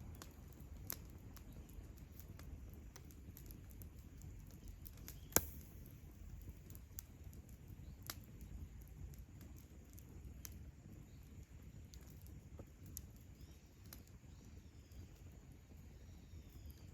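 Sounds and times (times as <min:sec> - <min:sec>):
campfire crackling: 0:00.0 - 0:16.9.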